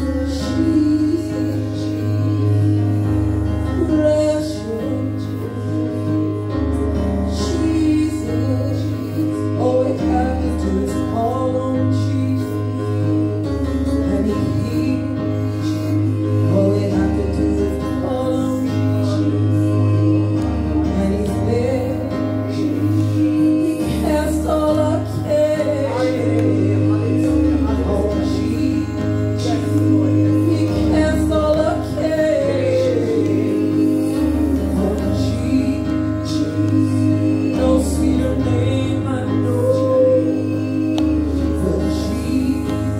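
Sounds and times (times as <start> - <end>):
choir singing gospel song: 0.0 - 42.9.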